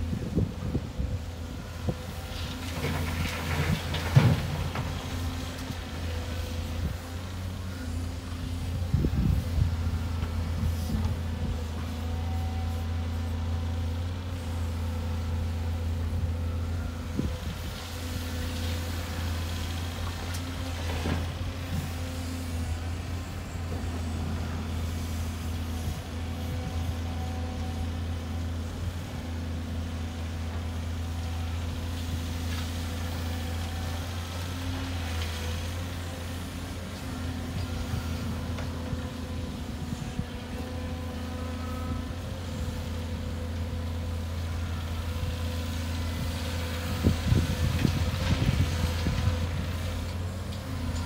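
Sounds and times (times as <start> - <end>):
diesel engines droning: 0.0 - 51.0.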